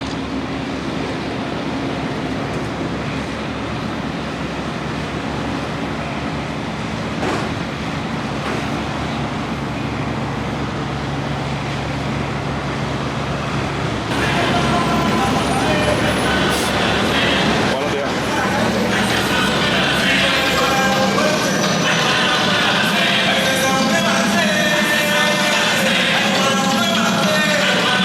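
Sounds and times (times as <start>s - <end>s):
traffic noise rushing: 0.0s - 28.0s.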